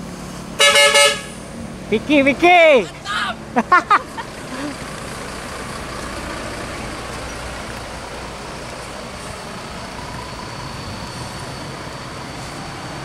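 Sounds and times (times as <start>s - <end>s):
bus diesel engine rumbling: 0.0s - 13.0s
road noise: 0.0s - 13.0s.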